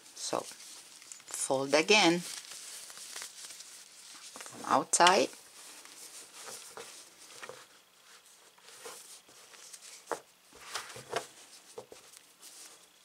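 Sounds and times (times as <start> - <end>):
cord rustling and rubbing: 0.0 - 13.0.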